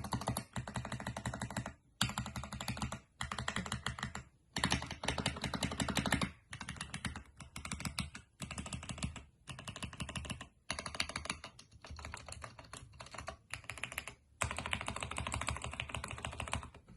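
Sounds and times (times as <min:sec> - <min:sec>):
mechanical keyboard typing: 0:00.0 - 0:16.9.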